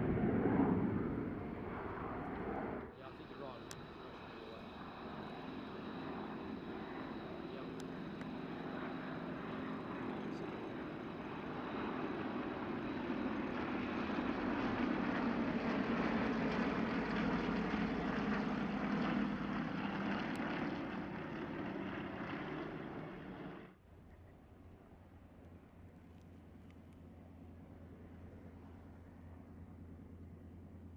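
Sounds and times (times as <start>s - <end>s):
propeller aircraft droning overhead: 0.0s - 30.9s.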